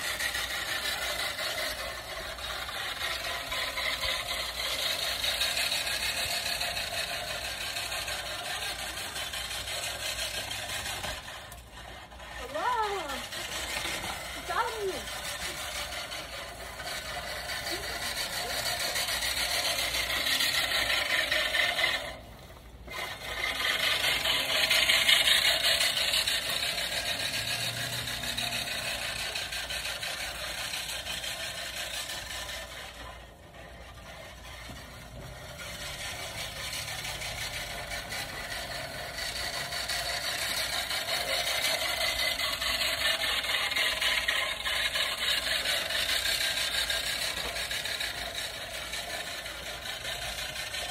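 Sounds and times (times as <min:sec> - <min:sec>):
reel mower whirring clatter: 0:00.0 - 0:50.9.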